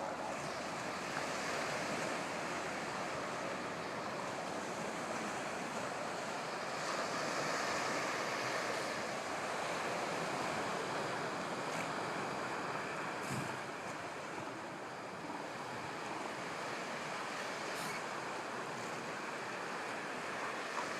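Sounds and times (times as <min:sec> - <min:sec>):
ocean surf washing on beach: 0:00.0 - 0:20.9.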